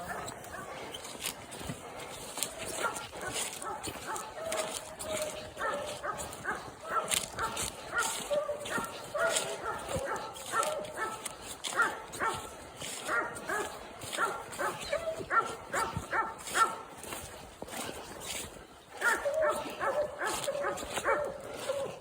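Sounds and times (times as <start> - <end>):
dog barking rapidly: 0.0 - 0.8, 2.6 - 16.9, 19.0 - 22.0.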